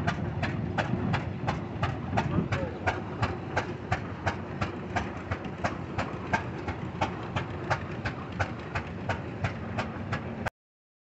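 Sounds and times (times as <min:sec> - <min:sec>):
old engine running with sharp clicks: 0:00.0 - 0:10.5.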